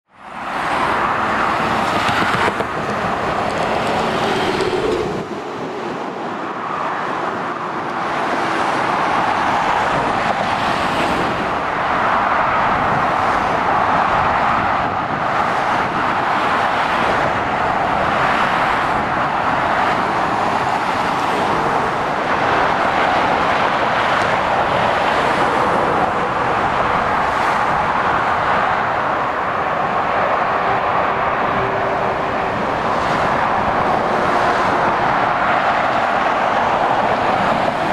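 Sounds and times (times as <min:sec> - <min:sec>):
road traffic rushing past: 0:00.1 - 0:37.9.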